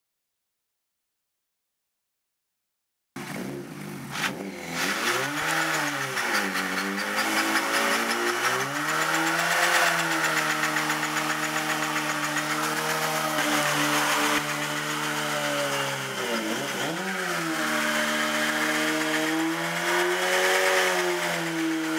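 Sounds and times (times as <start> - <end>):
motorcycle engine revving: 3.2 - 21.9
tyre spinning with loud hiss: 3.4 - 21.9.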